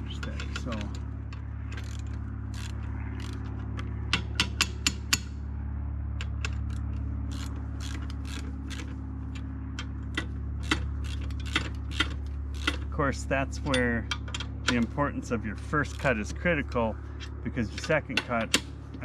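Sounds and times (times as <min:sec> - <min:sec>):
sharp metal clicks and knocks: 0:00.0 - 0:05.4, 0:06.1 - 0:15.0, 0:17.2 - 0:19.0
steady low hum: 0:00.0 - 0:19.0.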